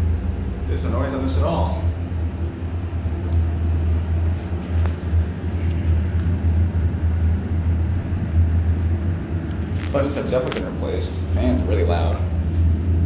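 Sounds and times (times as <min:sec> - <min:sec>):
elevator ventilation fan hum: 0:00.0 - 0:13.0.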